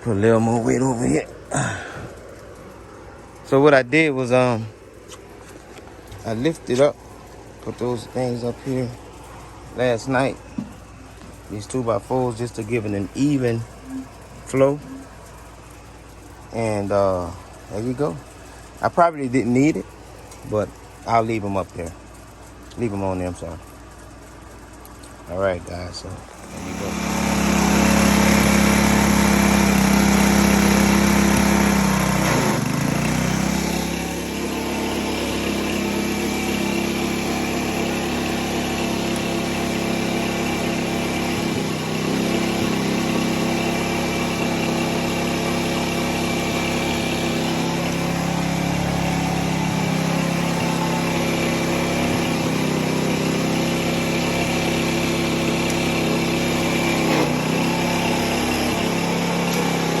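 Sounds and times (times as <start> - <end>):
pressure washer engine running: 0.0 - 60.0.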